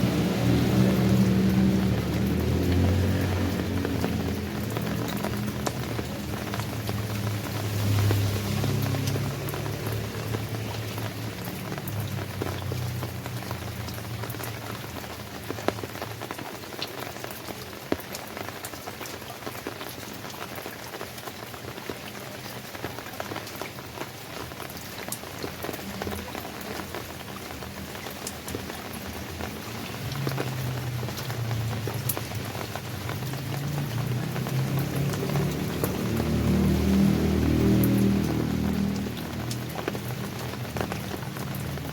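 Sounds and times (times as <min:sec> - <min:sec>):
rain falling: 0:00.0 - 0:41.9
raindrops ticking on a surface: 0:00.0 - 0:41.9.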